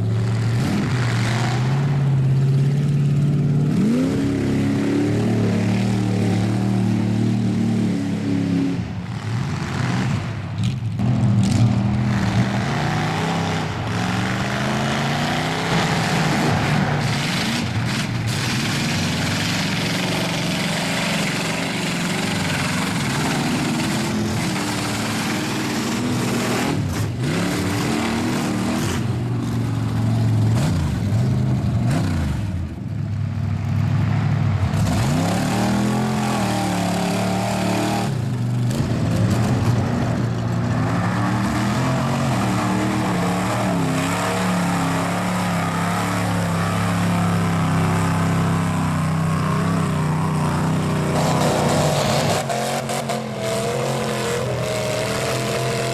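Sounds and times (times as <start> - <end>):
truck engine revving: 0.0 - 32.9, 33.6 - 55.9.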